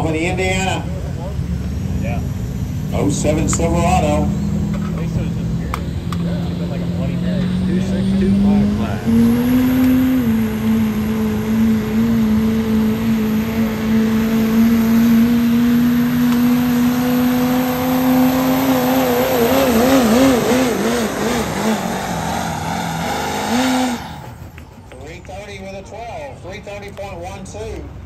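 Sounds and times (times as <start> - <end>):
truck engine at high revs: 0.0 - 25.9.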